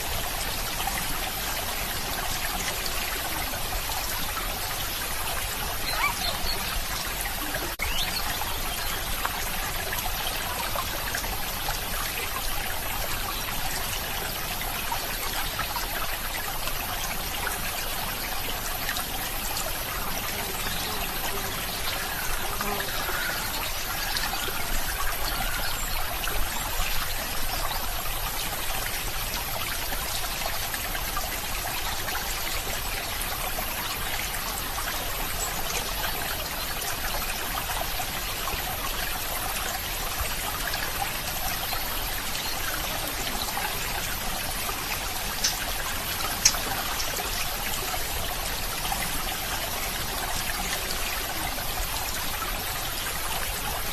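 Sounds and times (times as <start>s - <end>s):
stream trickling: 0.0s - 53.9s.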